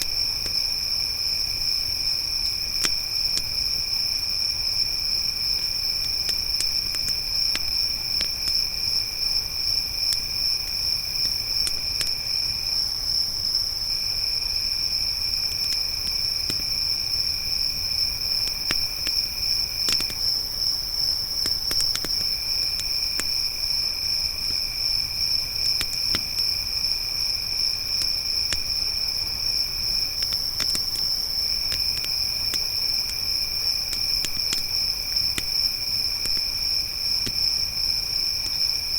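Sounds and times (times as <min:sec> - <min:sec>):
campfire crackling: 0:00.0 - 0:12.2, 0:15.4 - 0:38.9
crickets trilling: 0:00.0 - 0:38.9
lower-pitched cricket chirping: 0:00.0 - 0:38.9.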